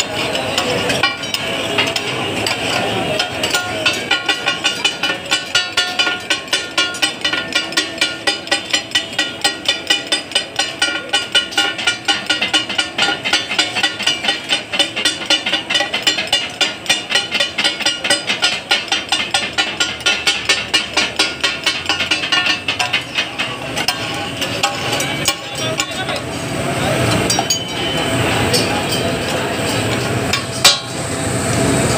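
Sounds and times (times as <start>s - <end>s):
metal spatulas clattering on griddle: 0.0s - 31.0s.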